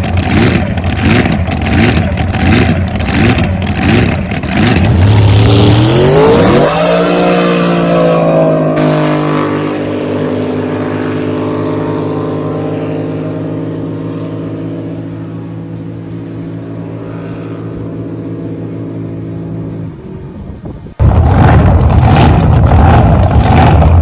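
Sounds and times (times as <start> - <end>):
boat engine revving: 0.0 - 24.0.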